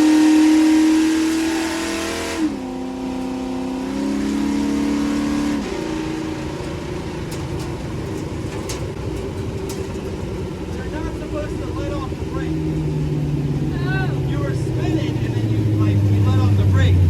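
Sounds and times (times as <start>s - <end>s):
race truck engine revving: 0.0s - 17.0s.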